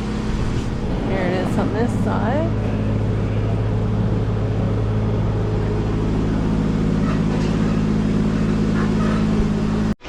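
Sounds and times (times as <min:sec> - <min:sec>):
machine engine droning: 0:00.0 - 0:10.0.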